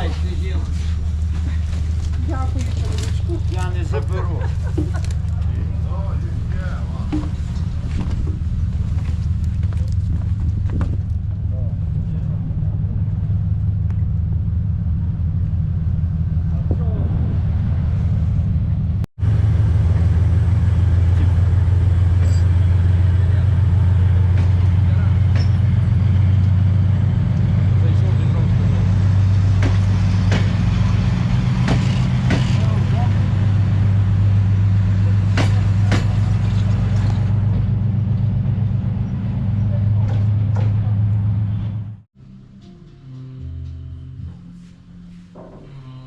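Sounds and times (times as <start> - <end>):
diesel train droning: 0.0 - 46.0.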